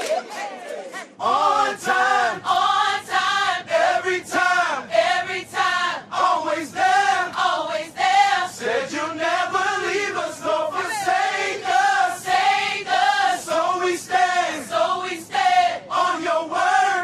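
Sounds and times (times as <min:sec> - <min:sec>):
gospel choir singing: 0:00.0 - 0:17.0.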